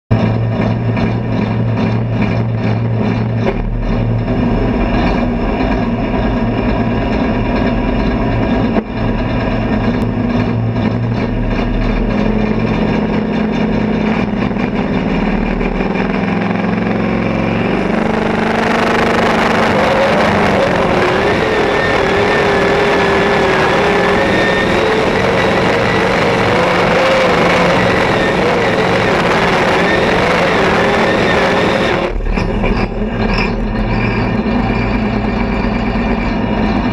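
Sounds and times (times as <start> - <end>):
diesel tractor engine: 0.1 - 36.9
high wavering whine: 0.1 - 36.9.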